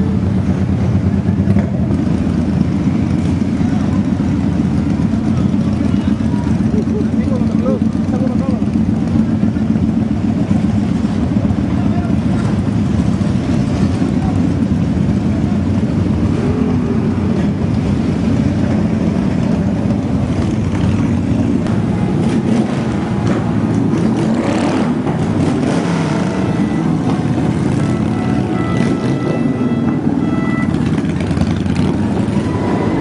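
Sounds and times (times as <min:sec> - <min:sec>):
motorcycle engines running: 0:00.0 - 0:33.0.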